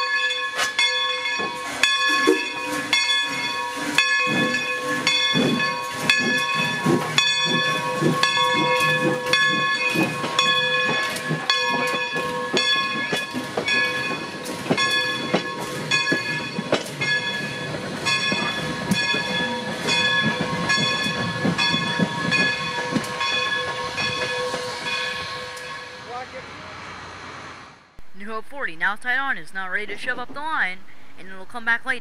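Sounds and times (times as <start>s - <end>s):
locomotive bell ringing: 0.0s - 26.6s.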